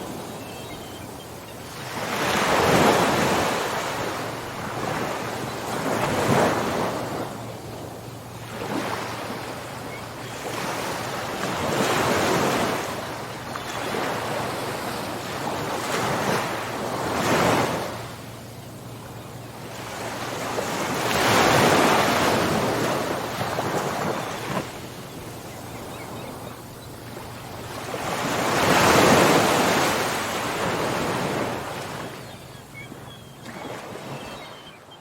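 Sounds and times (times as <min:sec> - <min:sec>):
ocean waves breaking ashore: 0:00.0 - 0:34.5.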